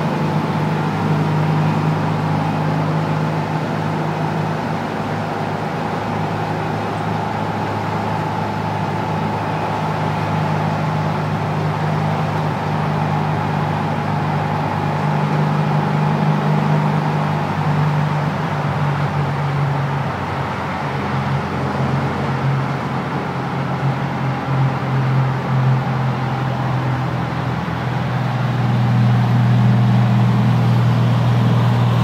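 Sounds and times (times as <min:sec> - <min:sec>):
road noise: 0:00.0 - 0:32.0
van engine running: 0:00.0 - 0:32.0.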